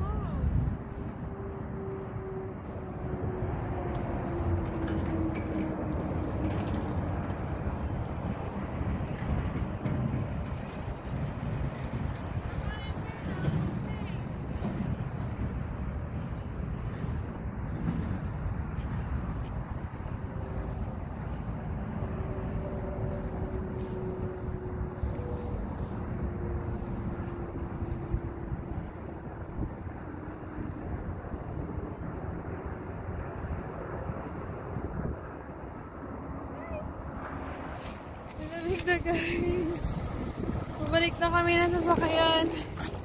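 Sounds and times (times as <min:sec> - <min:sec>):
distant traffic drone: 0:00.0 - 0:43.0
wind buffeting microphone: 0:00.0 - 0:43.0.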